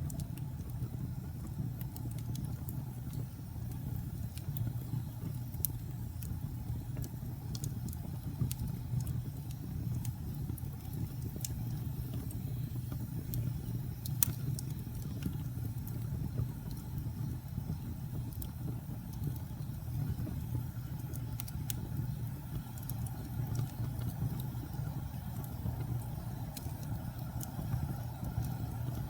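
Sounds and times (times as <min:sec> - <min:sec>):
fire crackling and popping: 0:00.0 - 0:29.0
wood fire burning: 0:00.0 - 0:29.0.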